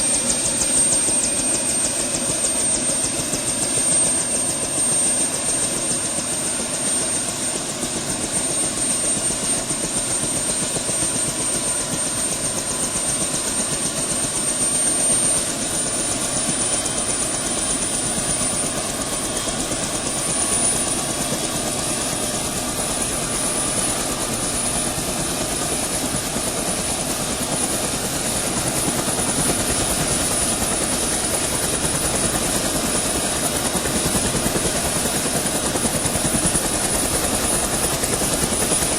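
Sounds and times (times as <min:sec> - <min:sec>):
helicopter engine whining: 0:00.0 - 0:38.9
helicopter rotor blades beating: 0:00.0 - 0:38.9.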